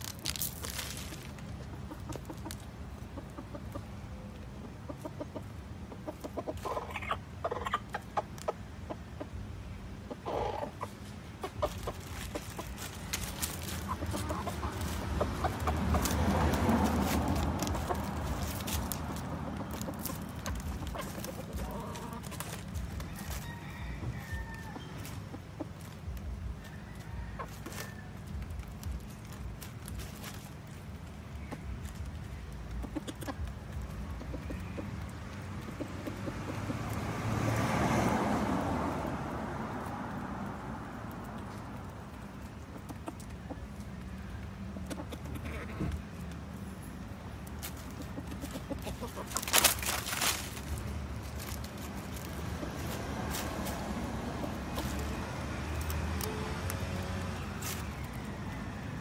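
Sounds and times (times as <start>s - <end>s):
clicks and rustles in dry leaves: 0.0s - 3.5s, 10.8s - 59.0s
chicken clucking: 1.5s - 37.0s, 41.2s - 59.0s.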